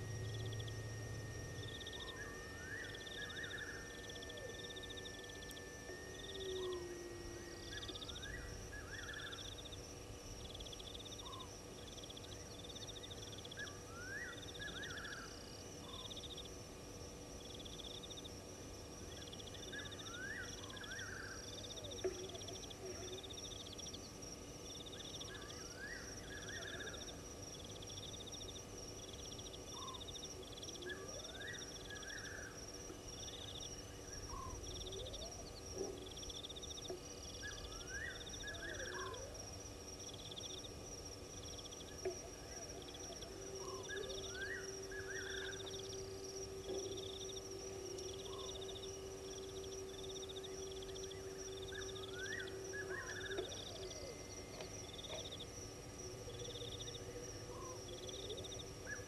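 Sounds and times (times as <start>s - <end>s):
crickets trilling: 0.0s - 59.0s
insect chirps: 0.0s - 59.0s
rising insect calls: 0.0s - 59.0s.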